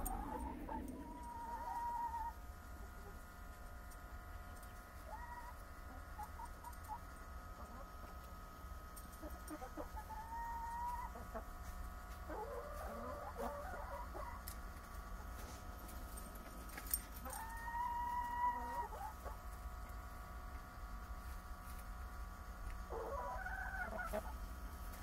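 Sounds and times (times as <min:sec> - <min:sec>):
chickens clucking: 0:00.0 - 0:03.3, 0:04.3 - 0:08.3, 0:09.0 - 0:15.7, 0:16.7 - 0:25.0.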